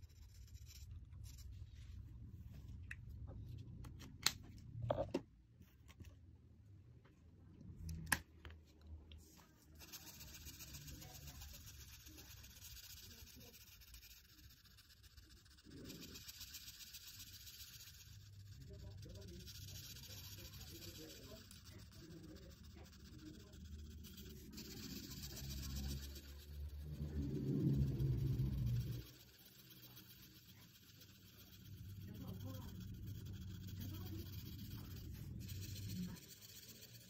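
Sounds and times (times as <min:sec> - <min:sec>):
marker rubbing on paper: 0:00.0 - 0:02.0, 0:09.3 - 0:37.0.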